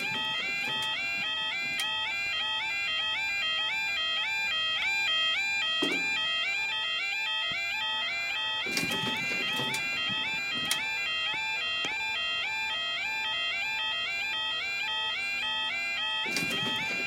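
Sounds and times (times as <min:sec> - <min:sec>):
level crossing alarm yelping: 0:00.0 - 0:17.0.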